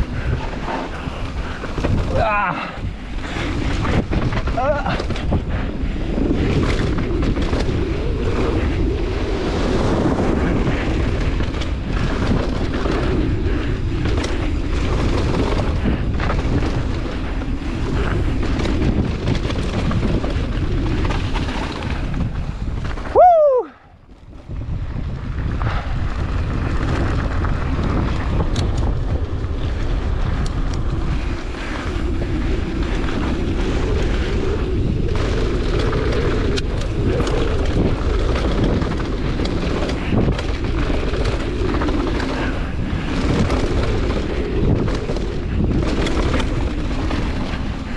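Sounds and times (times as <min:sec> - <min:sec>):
mountain bike rattling: 0:00.0 - 0:47.9
wind over microphone: 0:00.0 - 0:47.9.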